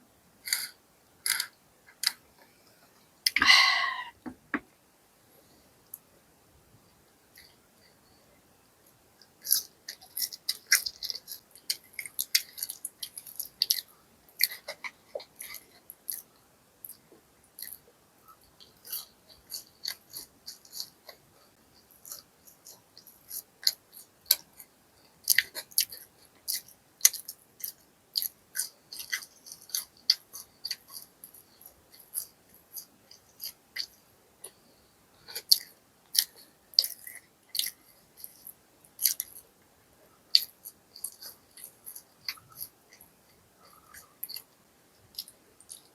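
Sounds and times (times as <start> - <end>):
person chewing crisp food: 0.4 - 2.2, 8.9 - 34.6, 35.2 - 39.6, 40.2 - 45.9.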